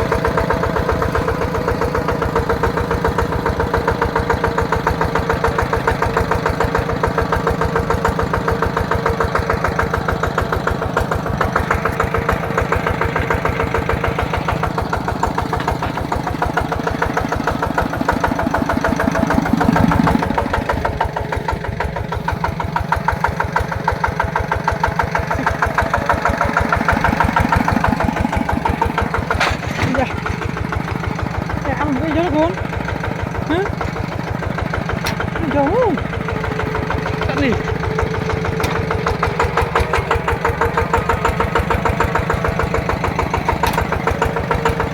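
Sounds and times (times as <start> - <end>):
diesel engine chugging: 0.0 - 44.9.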